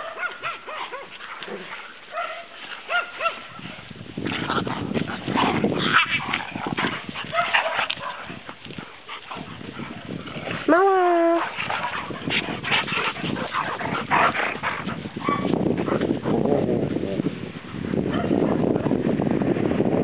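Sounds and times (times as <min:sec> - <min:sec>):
rustling noise: 0:00.0 - 0:16.2.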